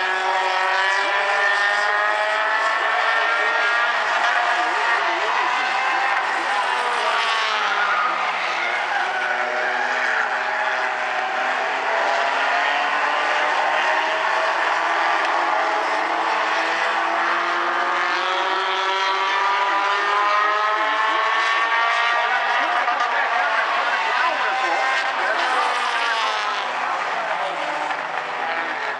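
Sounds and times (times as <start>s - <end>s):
race car engines revving past: 0.0s - 28.9s.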